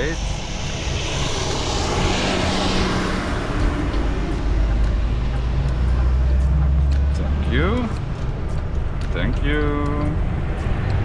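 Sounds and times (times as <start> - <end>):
diesel truck engine humming: 0.0 - 11.0
road noise inside cab: 0.0 - 11.0.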